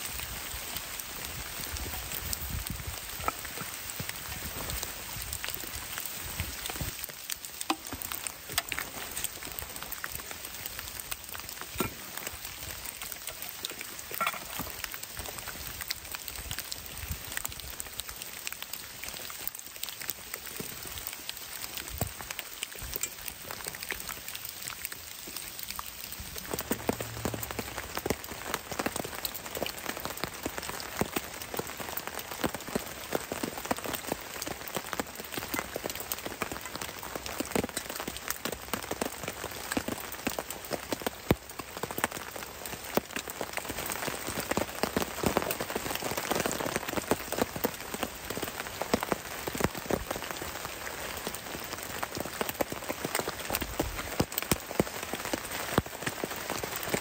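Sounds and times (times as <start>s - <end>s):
rain pattering on a tarp: 0.0s - 57.0s.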